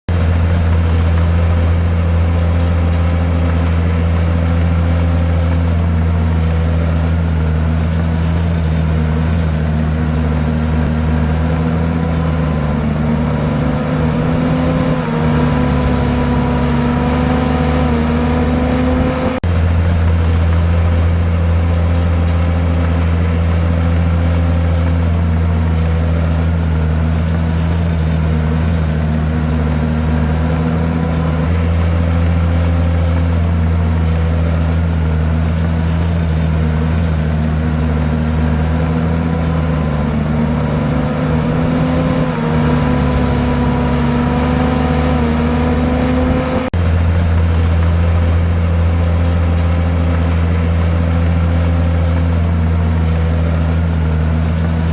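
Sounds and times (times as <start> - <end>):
bulldozer diesel engine humming: 0.0 - 54.9.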